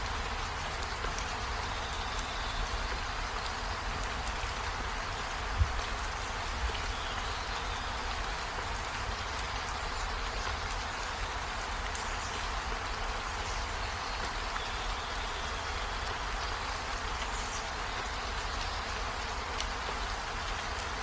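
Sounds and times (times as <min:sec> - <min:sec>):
steady rainfall: 0:00.0 - 0:21.0.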